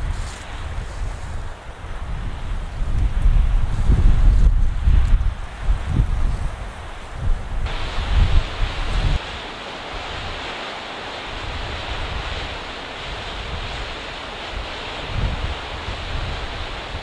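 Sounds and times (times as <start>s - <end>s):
river rushing: 0.0s - 4.1s, 4.8s - 17.0s
wind buffeting microphone: 0.0s - 17.0s.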